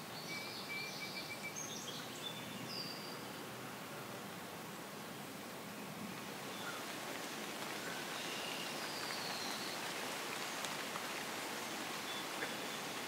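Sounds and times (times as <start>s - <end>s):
steady outdoor background hiss: 0.0s - 13.0s.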